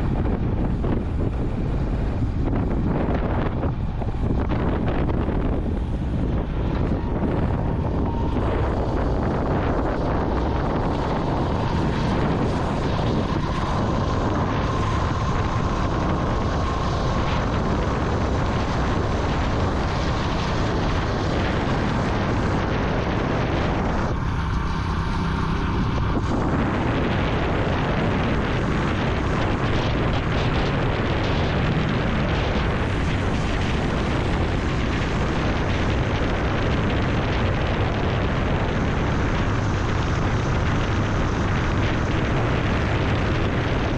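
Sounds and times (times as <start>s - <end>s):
motorcycle engine rumble: 0.0s - 43.9s
wind and road noise: 0.0s - 43.9s.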